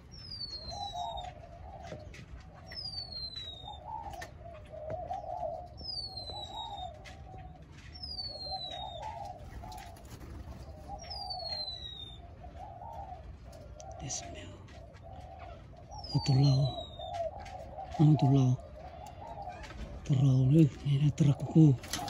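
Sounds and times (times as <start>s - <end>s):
doves cooing: 0.0s - 22.0s.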